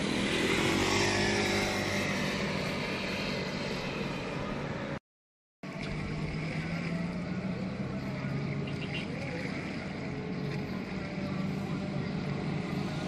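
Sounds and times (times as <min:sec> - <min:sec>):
outdoor background noise: 0:00.0 - 0:05.0, 0:05.6 - 0:13.0.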